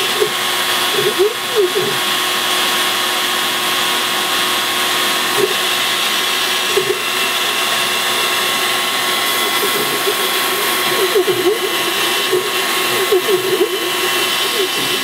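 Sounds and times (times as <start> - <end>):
cnc machine cutting wood: 0.0 - 15.0.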